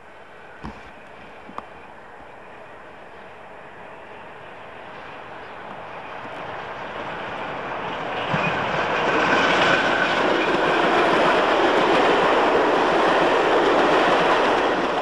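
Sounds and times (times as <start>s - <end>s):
train wheels on rails: 0.1s - 15.0s.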